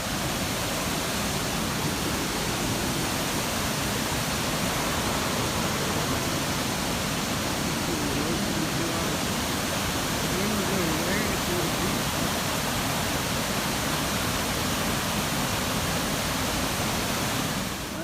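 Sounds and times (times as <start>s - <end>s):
water rushing over falls: 0.0s - 18.0s.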